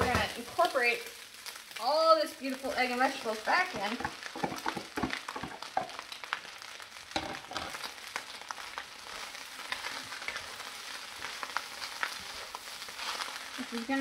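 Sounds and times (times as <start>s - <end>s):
rice sizzling in a wok: 0.0s - 14.0s.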